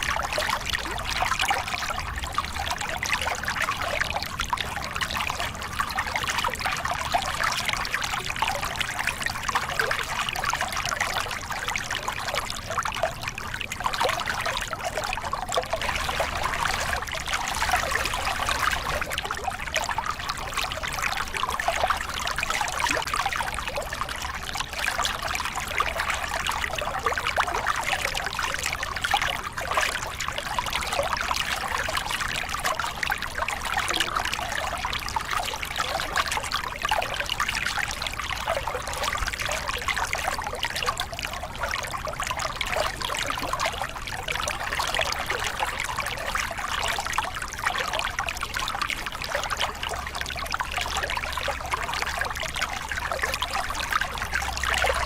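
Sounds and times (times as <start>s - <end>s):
water splashing over rocks: 0.0s - 55.0s.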